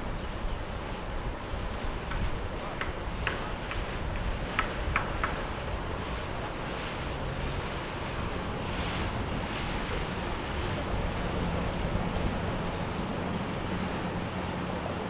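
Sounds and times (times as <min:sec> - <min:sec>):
faint boat engine drone: 0:00.0 - 0:15.0
waves washing: 0:00.0 - 0:15.0
wind buffeting microphone: 0:00.0 - 0:15.0.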